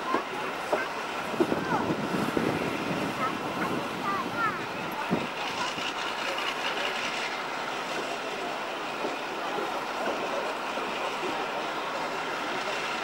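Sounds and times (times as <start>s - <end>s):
diesel locomotive engines idling: 0.0s - 13.0s.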